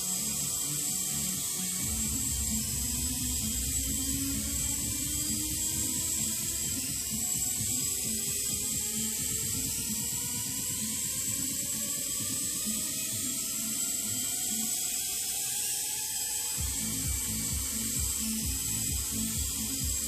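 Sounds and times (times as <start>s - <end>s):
background music with low beat: 0.0s - 20.0s
toy helicopter motors whining: 0.0s - 20.0s.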